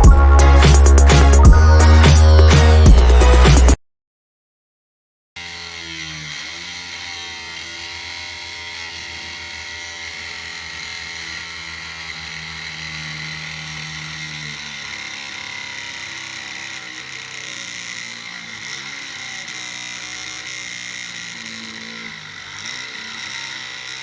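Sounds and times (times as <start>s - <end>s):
low motor hum: 0.0s - 3.8s, 5.4s - 24.0s
small electric motor whining: 0.0s - 3.8s, 5.4s - 24.0s.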